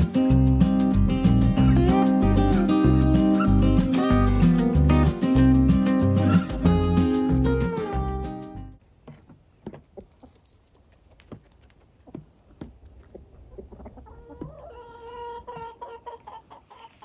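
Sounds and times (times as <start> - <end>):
chickens clucking: 0.0 - 5.6, 6.2 - 7.1, 9.1 - 17.0.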